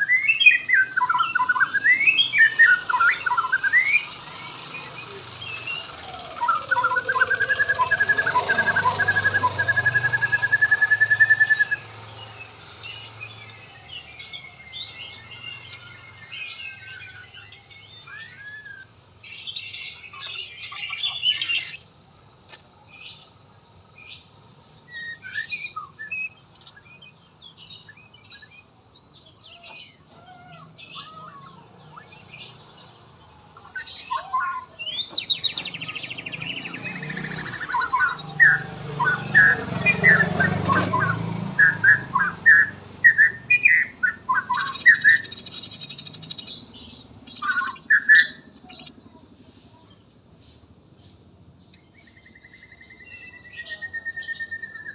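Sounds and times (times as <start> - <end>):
songbird whistles and chirps: 0.0 - 54.9.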